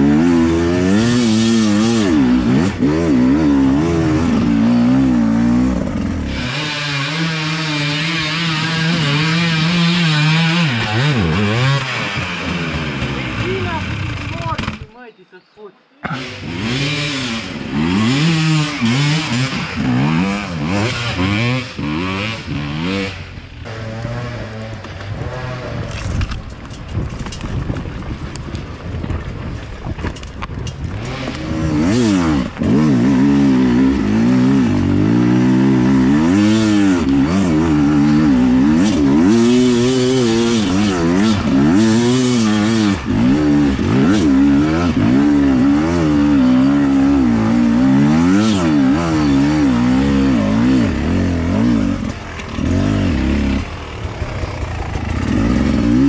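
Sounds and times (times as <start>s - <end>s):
dirt bike engine revving: 0.0s - 15.1s, 16.0s - 26.4s, 30.7s - 56.0s.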